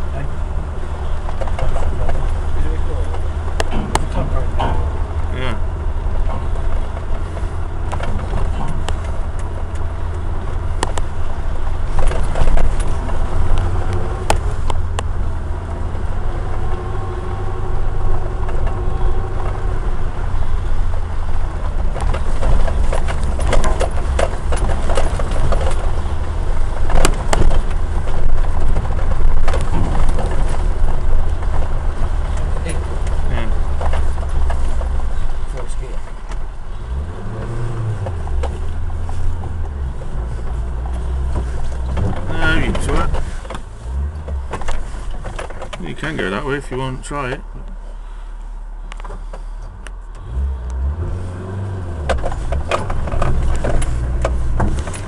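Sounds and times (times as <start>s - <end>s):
engine and road rumble: 0.0s - 55.0s
knocks and rattles over bumps: 0.0s - 55.0s.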